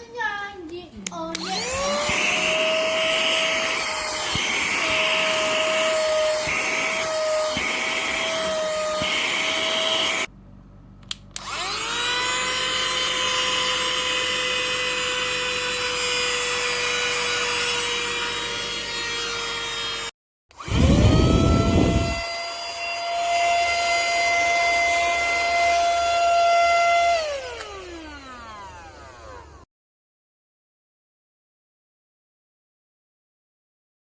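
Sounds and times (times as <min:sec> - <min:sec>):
vacuum motor high whine: 0:01.3 - 0:10.3, 0:11.1 - 0:29.6.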